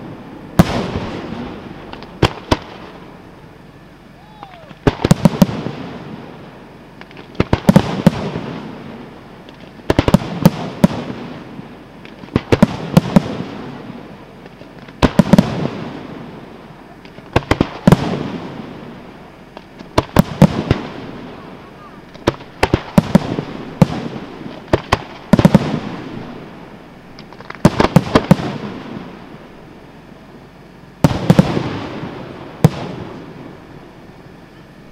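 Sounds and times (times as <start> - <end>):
firework shells bursting: 0.0 - 3.3, 4.5 - 29.8.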